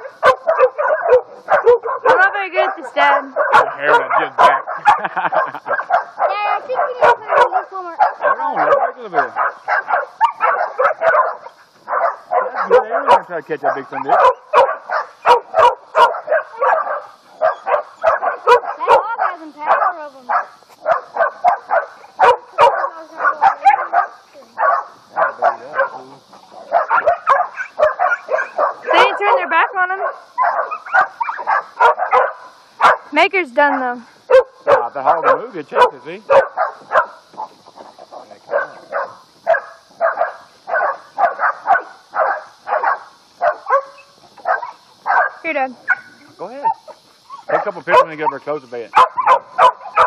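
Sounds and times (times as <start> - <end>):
puppies barking: 0.0 - 50.0.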